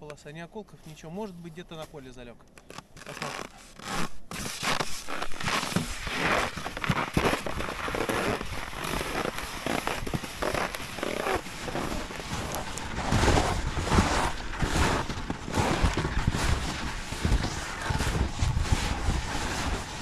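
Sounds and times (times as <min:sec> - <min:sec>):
footsteps crunching on snow crust: 0:00.2 - 0:20.0
skis sliding on snow: 0:03.0 - 0:20.0.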